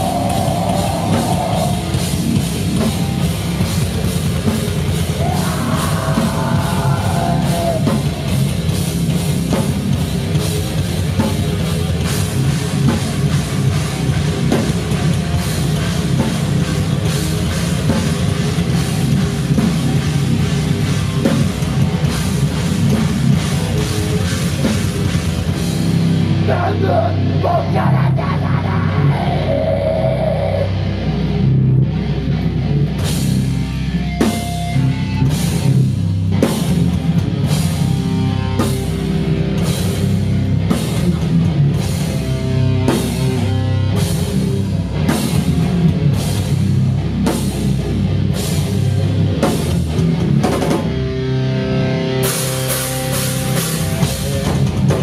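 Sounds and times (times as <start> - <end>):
punk band playing live: 0.0 - 55.0.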